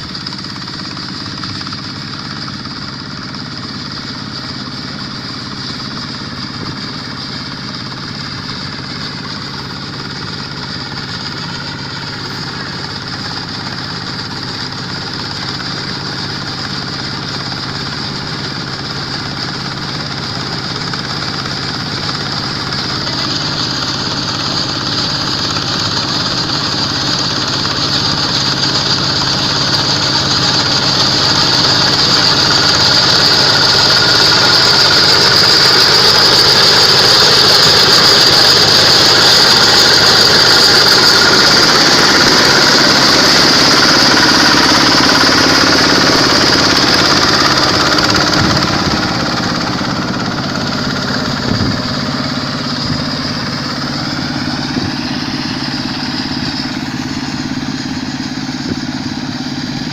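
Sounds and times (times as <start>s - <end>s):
combine harvester engine drone: 0.0s - 59.9s
machine hiss and rattle: 0.0s - 59.9s.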